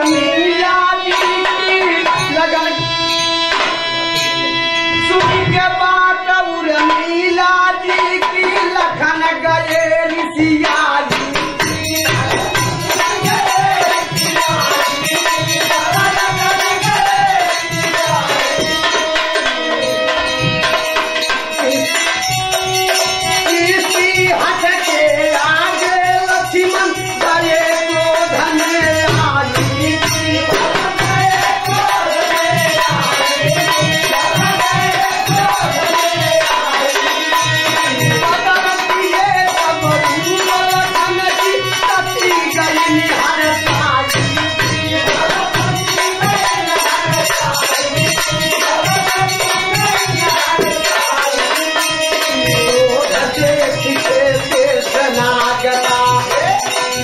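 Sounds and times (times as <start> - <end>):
hand-drum beat: 8.0 - 57.0.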